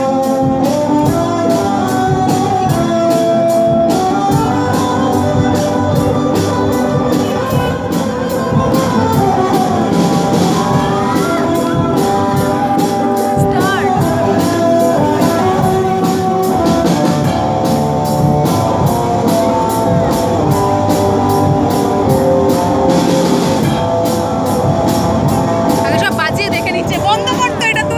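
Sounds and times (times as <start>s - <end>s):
cymbals keeping a beat: 0.0s - 27.9s
electric guitars bending notes: 0.0s - 27.9s
live rock band over loudspeakers: 0.0s - 27.9s.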